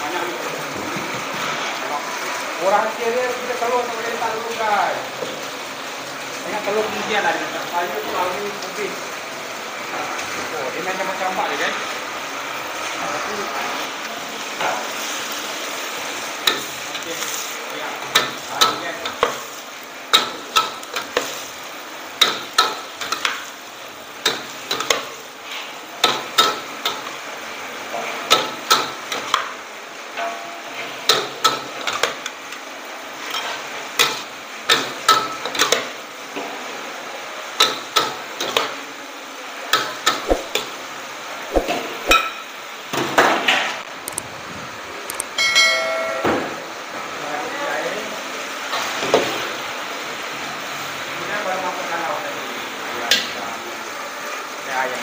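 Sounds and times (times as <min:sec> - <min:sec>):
steady frying hiss: 0:00.0 - 0:55.0.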